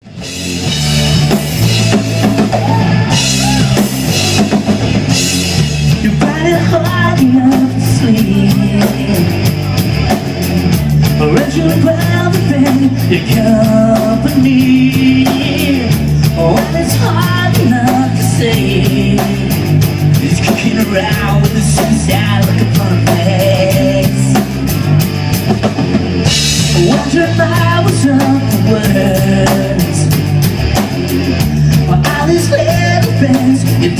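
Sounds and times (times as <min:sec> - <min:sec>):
rock band playing: 0:00.0 - 0:33.9.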